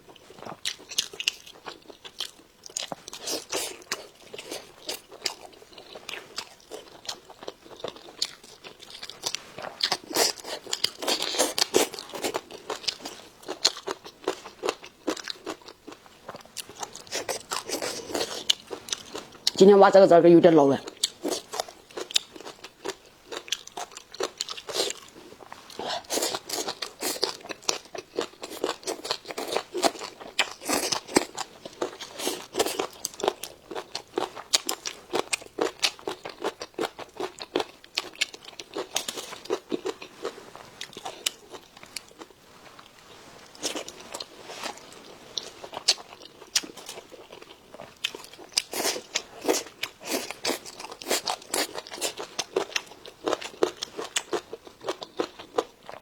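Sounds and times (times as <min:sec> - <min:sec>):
chewing and crunching food: 0:00.0 - 0:56.0.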